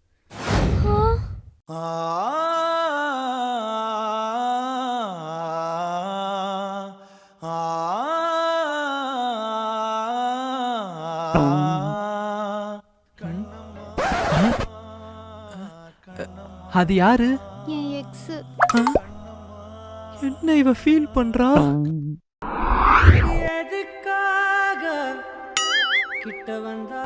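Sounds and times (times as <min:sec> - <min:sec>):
slow chant-like melody: 0:01.7 - 0:21.6, 0:23.5 - 0:27.0.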